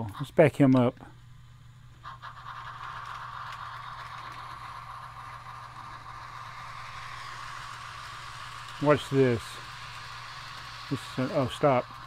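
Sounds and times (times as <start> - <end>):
model train motor and wheels whirring: 0.0 - 12.0.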